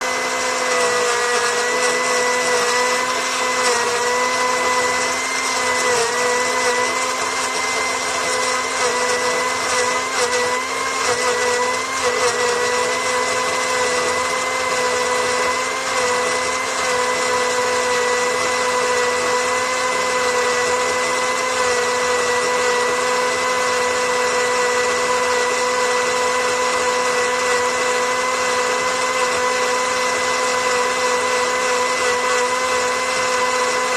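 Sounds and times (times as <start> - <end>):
electric blender whining: 0.0 - 33.9.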